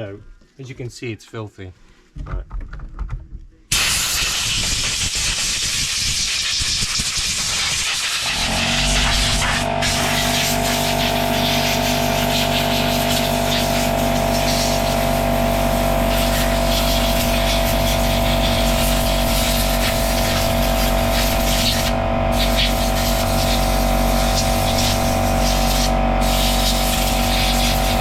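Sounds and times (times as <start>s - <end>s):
air compressor running: 3.7s - 28.0s
compressed air hissing from nozzle: 3.7s - 28.0s.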